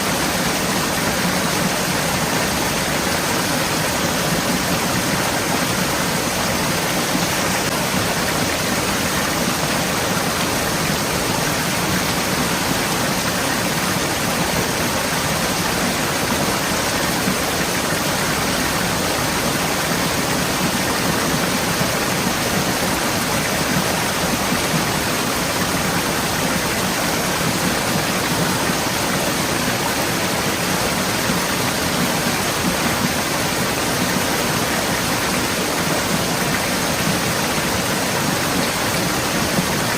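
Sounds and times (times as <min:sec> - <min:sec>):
stream rushing and splashing: 0:00.0 - 0:39.9.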